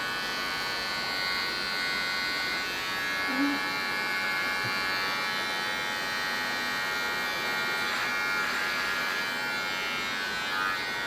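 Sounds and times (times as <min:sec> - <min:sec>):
electric hair clippers running: 0:00.0 - 0:11.0.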